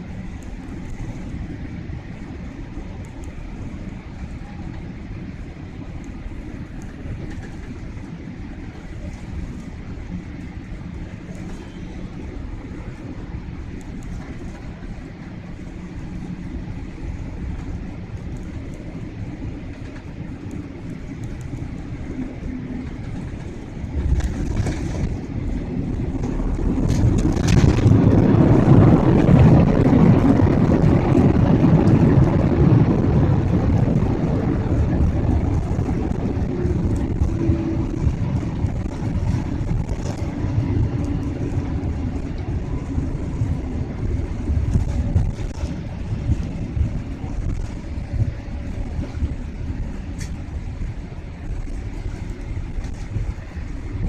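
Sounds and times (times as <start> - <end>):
aircraft engine and airflow noise: 0.0 - 54.0
jet engine reverse thrust rush: 0.0 - 54.0.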